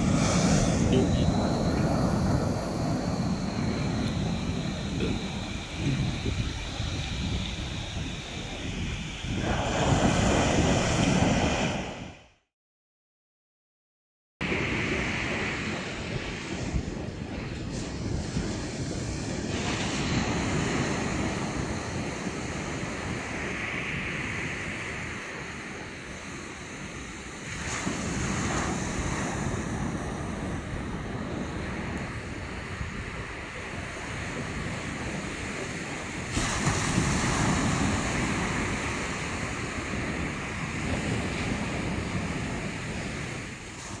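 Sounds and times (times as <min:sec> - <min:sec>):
surf washing up a beach: 0:00.0 - 0:12.2, 0:14.4 - 0:44.0
wind buffeting the microphone: 0:00.0 - 0:12.2, 0:14.4 - 0:44.0.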